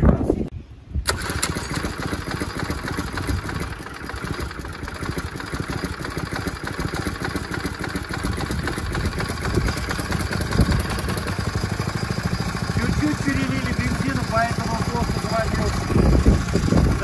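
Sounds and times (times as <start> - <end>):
small petrol engine idling: 1.1 - 17.0.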